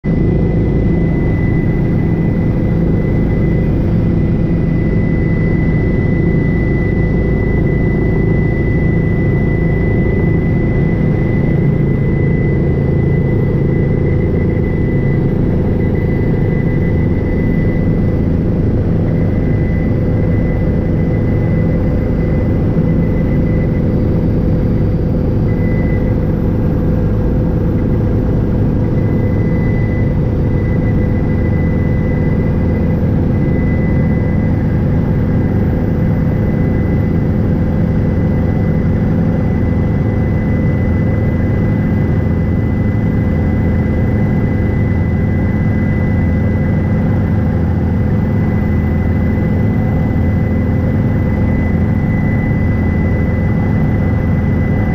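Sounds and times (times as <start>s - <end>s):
helicopter engine and rotor drone: 0.0s - 54.9s
high whine: 0.0s - 54.9s.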